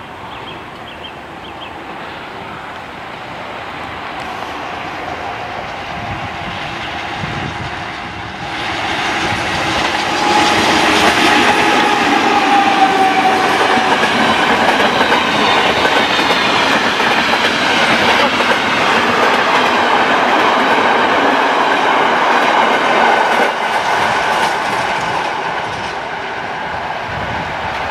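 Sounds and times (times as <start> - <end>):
locomotive whine: 0.0 - 27.9
train wheels rushing on rails: 0.0 - 27.9.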